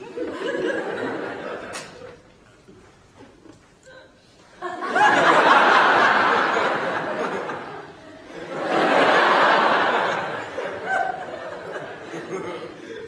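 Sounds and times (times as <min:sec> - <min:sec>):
studio audience laughing: 0:00.0 - 0:02.1, 0:04.6 - 0:13.0.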